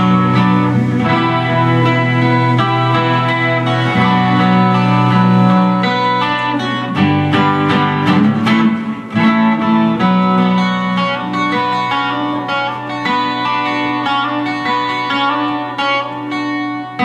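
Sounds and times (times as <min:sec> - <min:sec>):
plucked guitar notes: 0:00.0 - 0:17.0
sustained backing chords: 0:00.0 - 0:17.0.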